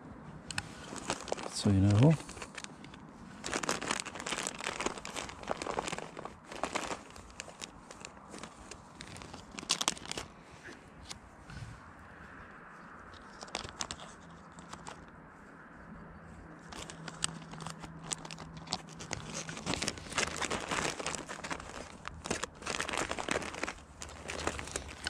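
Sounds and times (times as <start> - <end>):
plastic packaging crinkling: 0.5 - 10.4, 13.1 - 15.1, 16.6 - 25.0.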